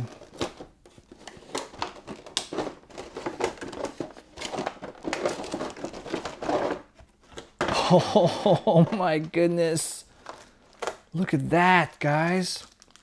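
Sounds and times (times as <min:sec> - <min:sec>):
plastic blister cover crackling: 0:00.0 - 0:07.8, 0:10.0 - 0:13.0.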